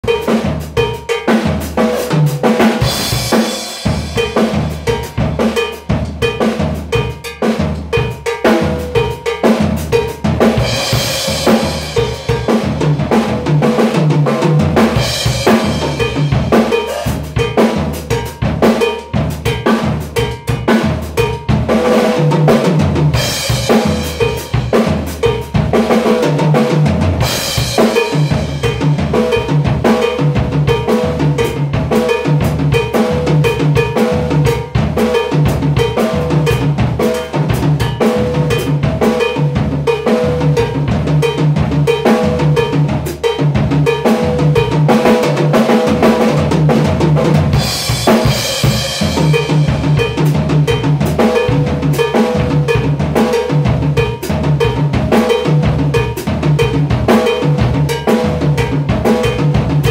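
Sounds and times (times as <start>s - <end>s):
drum kit groove: 0.0s - 59.9s.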